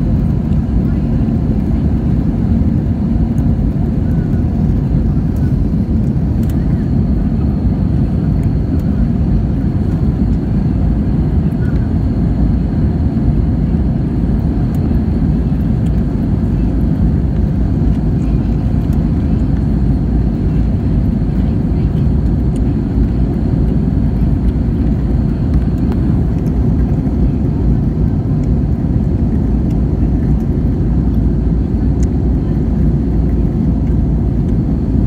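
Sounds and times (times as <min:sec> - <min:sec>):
jet engine and airflow rumble: 0:00.0 - 0:35.0.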